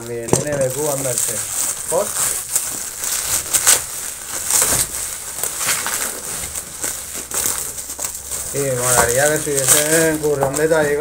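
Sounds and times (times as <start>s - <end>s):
cardboard and plastic crinkling: 0.0s - 11.0s
plastic packaging crackles: 0.0s - 11.0s.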